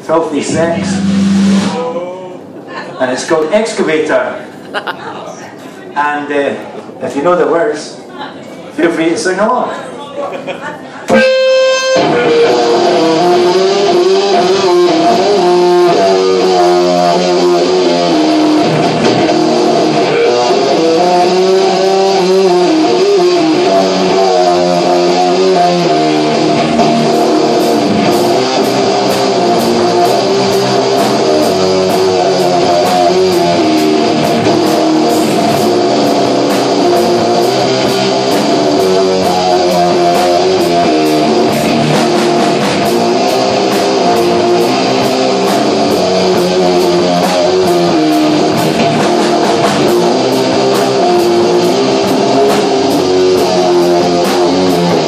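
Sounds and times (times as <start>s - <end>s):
rock band playing: 0.0s - 2.6s, 11.1s - 55.0s.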